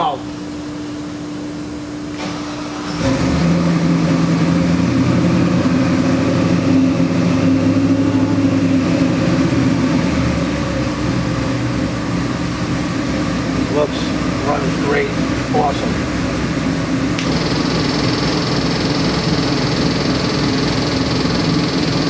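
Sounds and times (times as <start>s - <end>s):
supercharged engine running: 3.0s - 22.0s.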